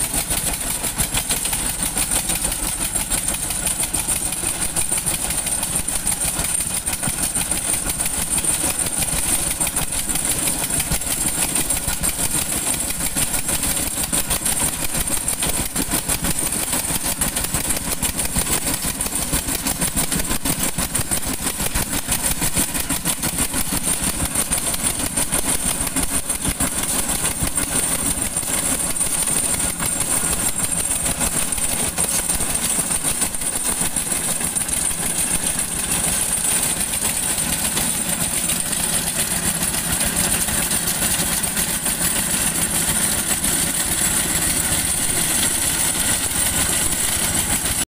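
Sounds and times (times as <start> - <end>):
construction machine engine rattling: 0.0 - 47.9.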